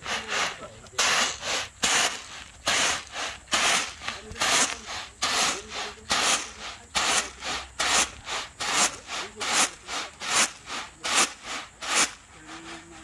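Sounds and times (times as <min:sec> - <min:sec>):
beans swishing in winnowing basket: 0:00.0 - 0:13.0.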